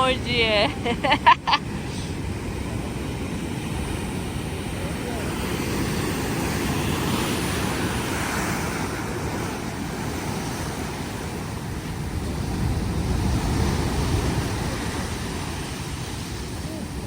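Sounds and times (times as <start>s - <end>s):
waves breaking: 0.0s - 17.0s
wind on microphone: 0.0s - 17.0s.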